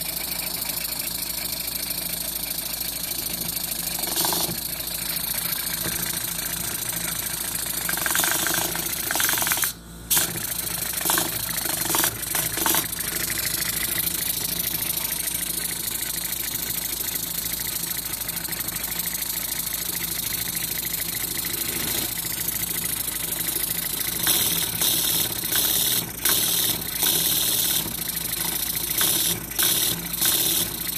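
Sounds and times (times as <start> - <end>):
model steam engine rattling: 3.2 - 9.7, 10.6 - 30.9.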